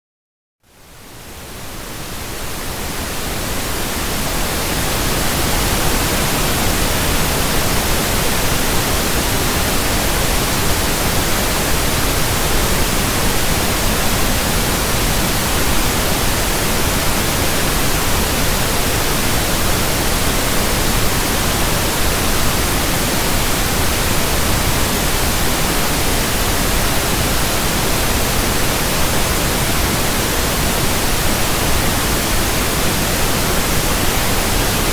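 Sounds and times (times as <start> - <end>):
pink noise hiss: 0.7 - 34.9.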